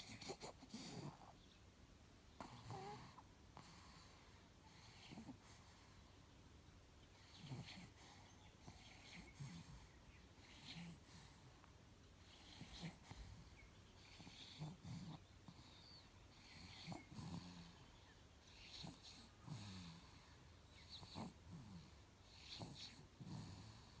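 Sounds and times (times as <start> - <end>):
faint snoring: 2.4 - 6.0, 7.2 - 11.5, 12.2 - 24.0.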